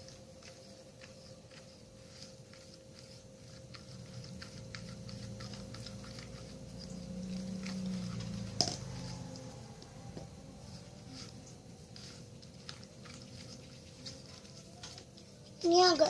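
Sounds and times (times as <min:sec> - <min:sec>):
faint electrical hum: 0:00.0 - 0:16.0
spoon stirring sticky slime: 0:00.0 - 0:16.0.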